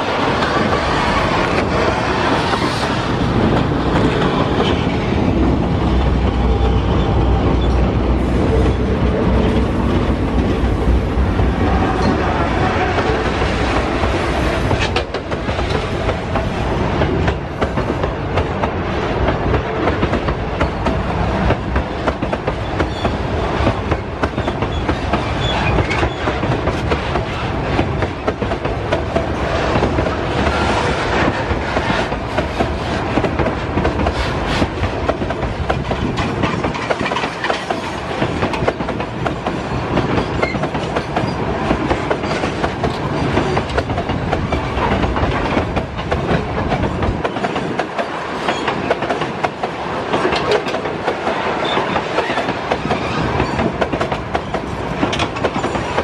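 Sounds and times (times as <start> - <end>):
steel wheels clattering over rail joints: 0.0 - 56.0.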